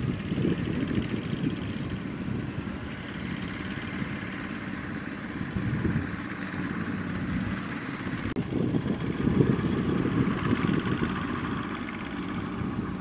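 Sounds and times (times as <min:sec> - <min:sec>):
diesel engine chugging: 0:00.0 - 0:13.0.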